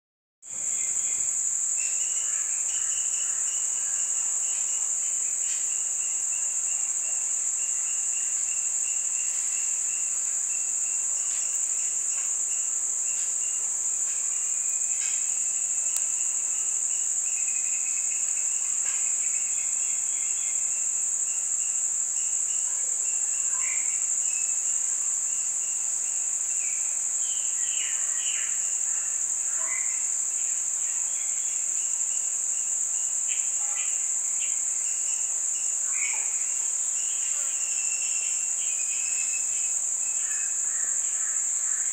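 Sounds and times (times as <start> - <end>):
low insect trill: 0.5 - 41.9
high-pitched insect drone: 0.6 - 41.9.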